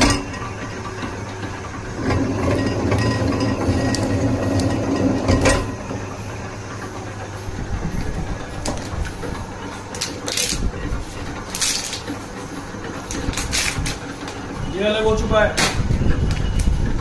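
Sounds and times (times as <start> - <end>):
wire stripping machine humming: 0.0 - 17.0.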